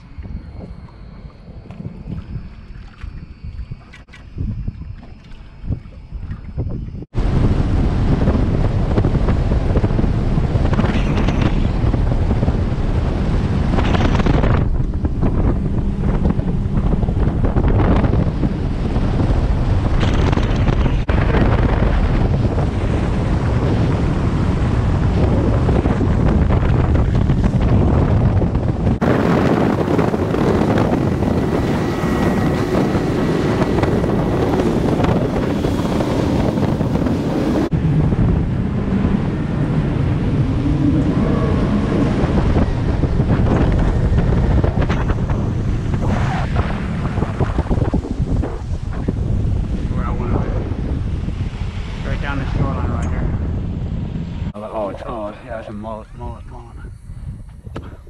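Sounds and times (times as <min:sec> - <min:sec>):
boat running noise: 0:00.0 - 0:58.0
wind buffeting microphone: 0:00.0 - 0:58.0.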